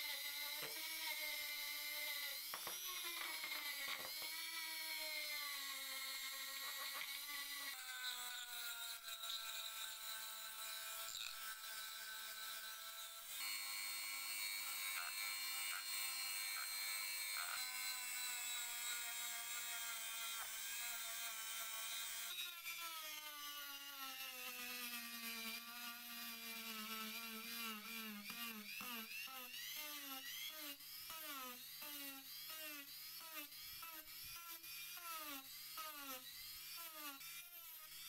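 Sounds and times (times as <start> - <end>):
electric rotary tool whining: 0.0 - 38.0.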